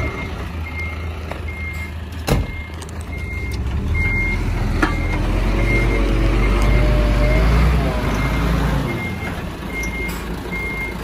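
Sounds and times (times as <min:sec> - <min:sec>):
diesel engine rumble: 0:00.0 - 0:11.0
reversing alarm beeping: 0:00.0 - 0:11.0.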